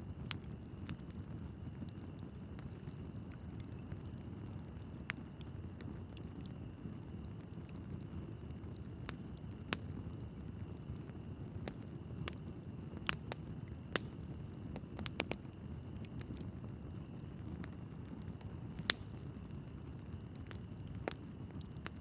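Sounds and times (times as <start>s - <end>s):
fire flames rumbling: 0.0s - 22.0s
logs crackling and popping: 0.1s - 22.0s.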